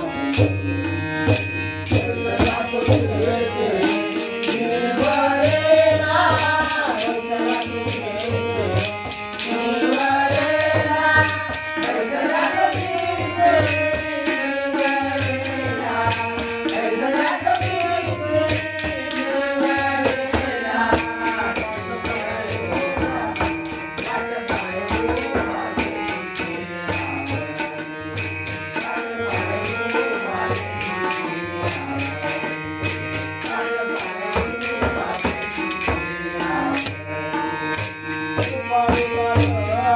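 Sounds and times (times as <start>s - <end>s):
drum and percussion beat: 0.0s - 39.9s
person singing devotional song: 0.0s - 39.9s.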